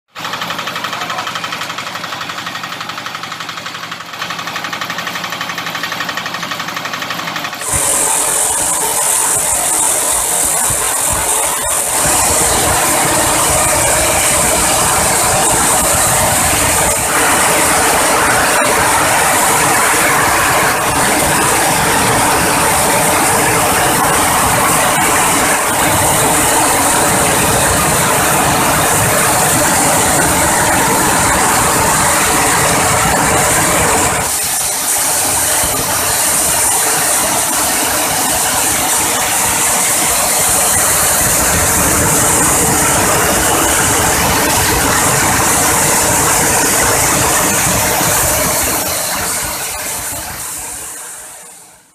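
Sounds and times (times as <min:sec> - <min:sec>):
huller machine clattering and whirring: 0:00.1 - 0:51.9.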